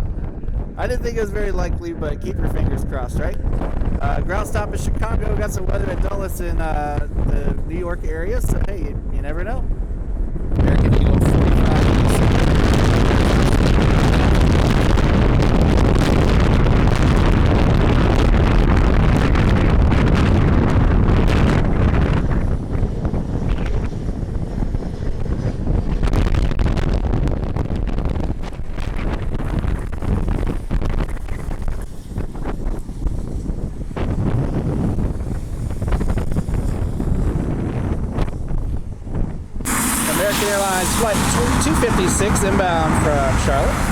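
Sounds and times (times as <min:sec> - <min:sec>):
gusty wind buffeting microphone: 0:00.0 - 0:43.9.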